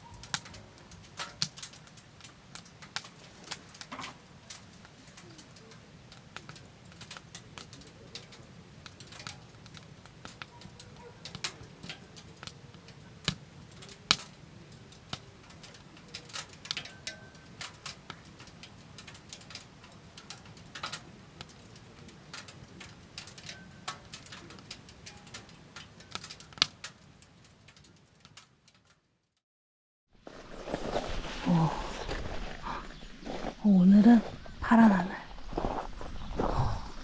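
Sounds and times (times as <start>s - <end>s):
wood fire crackling: 0.0s - 29.4s, 30.2s - 37.0s.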